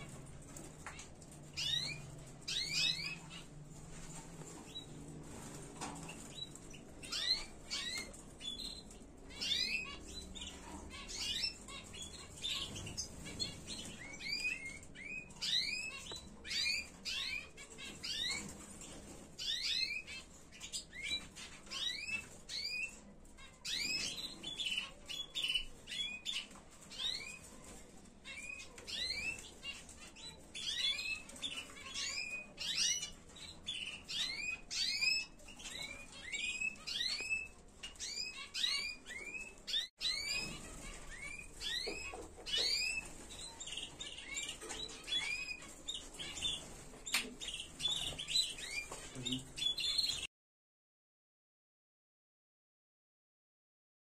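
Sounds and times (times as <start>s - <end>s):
birds chirping: 0.0s - 50.3s.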